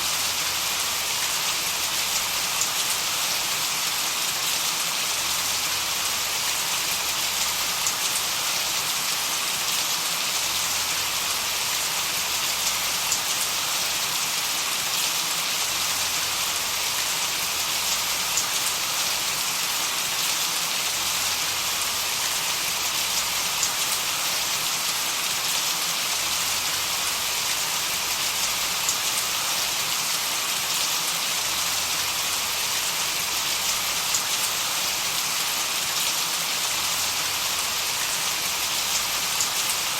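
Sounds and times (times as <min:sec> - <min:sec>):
steady hiss like rain: 0:00.0 - 0:39.9.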